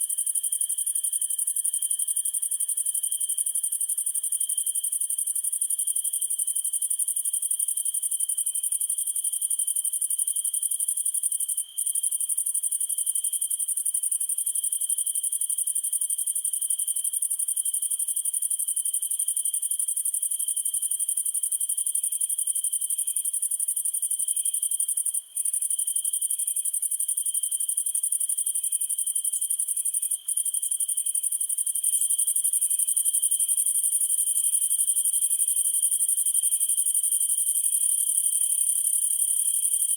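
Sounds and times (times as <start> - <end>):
cricket chirping slowly: 0.0 - 39.9
low steady insect trill: 0.0 - 39.9.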